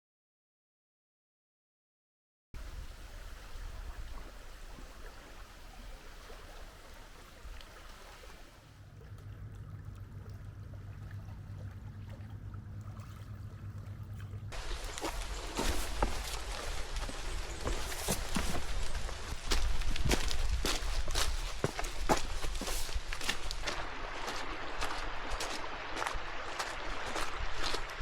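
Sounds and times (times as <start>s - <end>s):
low steady hum: 2.6s - 25.2s
running water: 2.6s - 28.0s.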